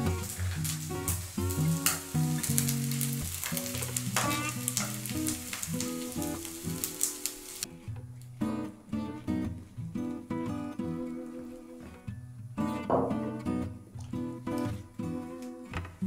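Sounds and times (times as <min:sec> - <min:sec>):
acoustic guitar music: 0:00.0 - 0:16.0
light sizzling hiss: 0:00.0 - 0:16.0.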